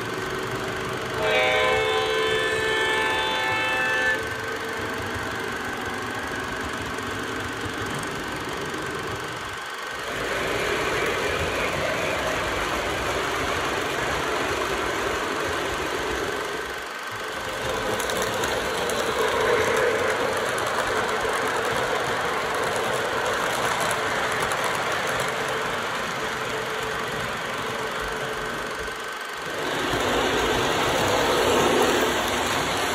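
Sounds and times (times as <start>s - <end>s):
model trains rumbling on track: 0.0s - 32.9s.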